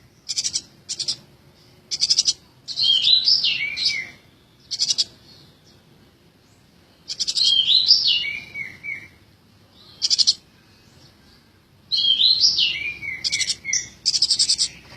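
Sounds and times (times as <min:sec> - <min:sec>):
sparrow chirping: 0:00.0 - 0:14.9.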